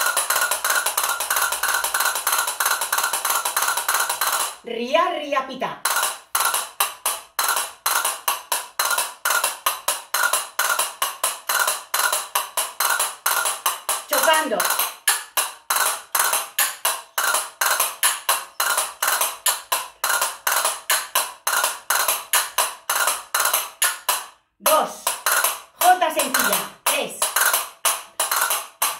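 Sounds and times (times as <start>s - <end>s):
castanets clacking: 0.0s - 4.6s, 5.9s - 28.9s.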